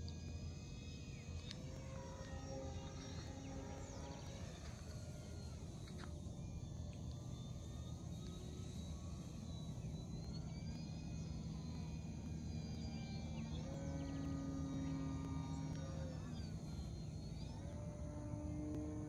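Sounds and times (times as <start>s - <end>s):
model plane motor droning: 0.0s - 19.0s.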